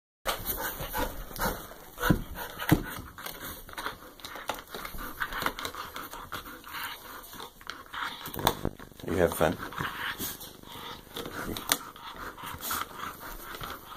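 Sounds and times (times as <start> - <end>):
dog panting: 0.3 - 13.9.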